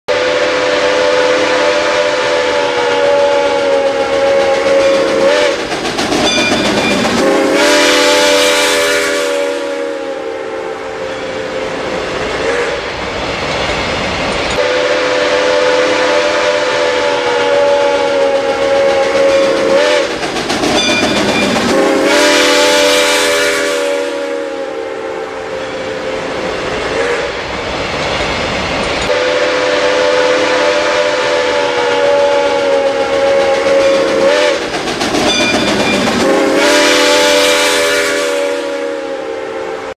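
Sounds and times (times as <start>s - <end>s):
steam locomotive whistle: 0.1s - 12.8s, 14.6s - 20.2s, 20.8s - 27.4s, 29.1s - 34.7s, 35.3s - 39.9s
train rumbling: 0.1s - 39.9s
rush of steam: 1.6s - 10.1s, 10.7s - 17.6s, 18.2s - 24.6s, 25.4s - 39.0s.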